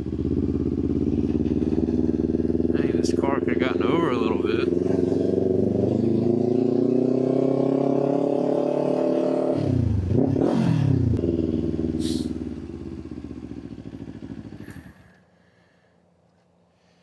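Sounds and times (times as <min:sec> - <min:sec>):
motorcycle engine revving: 0:00.0 - 0:15.2.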